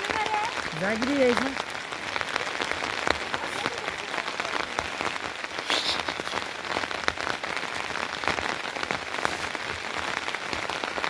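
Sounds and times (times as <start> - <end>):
raindrops ticking close by: 0.0 - 11.0
steady rain falling: 0.0 - 11.0.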